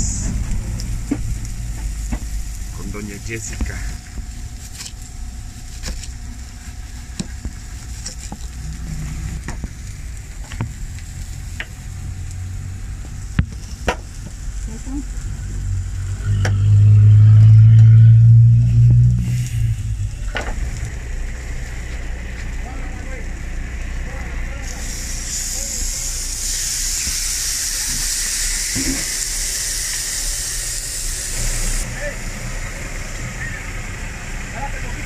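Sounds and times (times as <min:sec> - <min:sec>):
loud low engine hum: 0:00.0 - 0:35.0
patties sizzling on griddle: 0:00.0 - 0:35.0.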